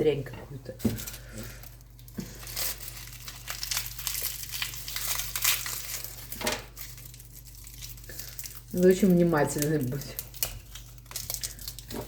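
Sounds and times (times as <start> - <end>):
garlic skin crinkling: 0.8 - 12.0.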